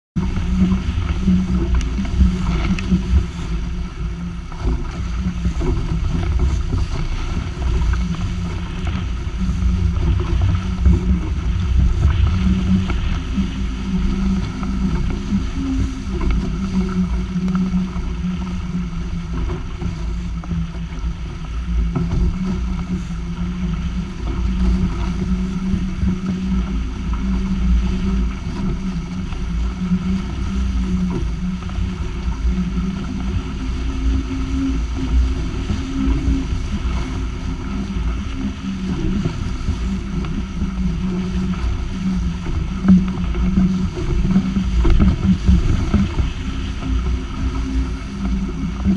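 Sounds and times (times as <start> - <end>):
wind buffeting microphone: 0.2 - 48.9.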